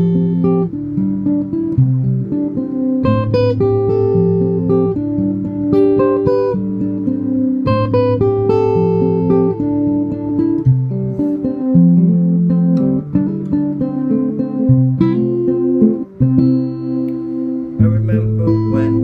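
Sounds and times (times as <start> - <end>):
acoustic guitar playing chords: 0.0 - 19.0.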